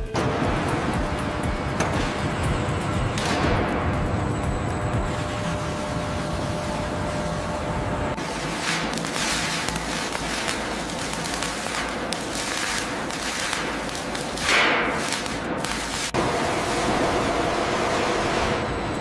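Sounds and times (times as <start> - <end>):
arc welding crackling and hissing: 0.0 - 19.0
steady machine noise: 0.0 - 19.0.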